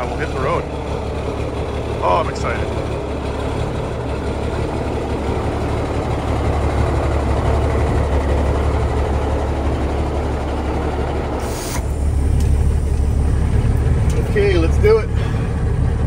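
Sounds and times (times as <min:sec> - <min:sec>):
air compressor building pressure: 0:00.0 - 0:16.0
diesel engine idling: 0:00.0 - 0:16.0.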